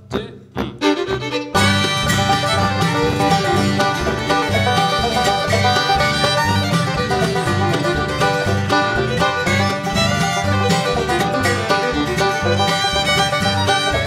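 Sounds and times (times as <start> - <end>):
bluegrass band playing: 0.0 - 14.0.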